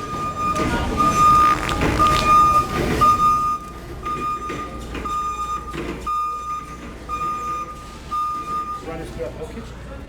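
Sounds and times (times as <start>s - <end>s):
backup alarm beeping: 0.0s - 8.9s.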